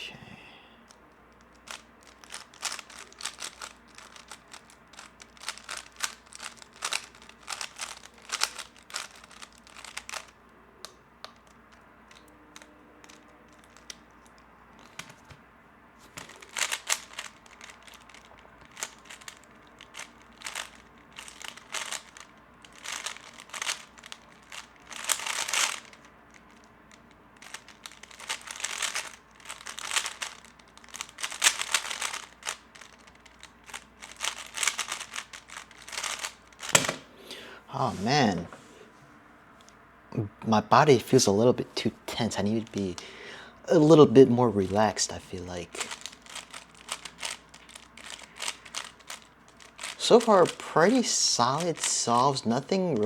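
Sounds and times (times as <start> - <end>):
puzzle cube clicking: 1.3 - 15.4, 16.2 - 37.1, 44.6 - 53.0.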